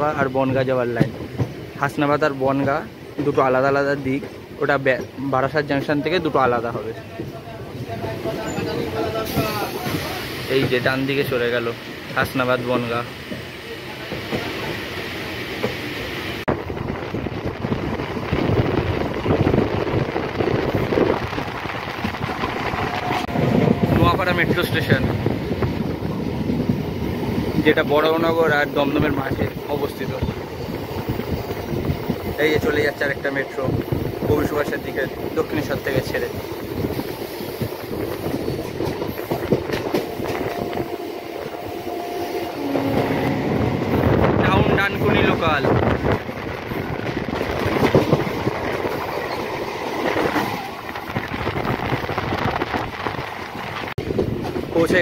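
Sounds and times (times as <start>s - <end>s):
rail clatter: 0.0s - 55.0s
train wheels rumbling on rails: 0.0s - 55.0s.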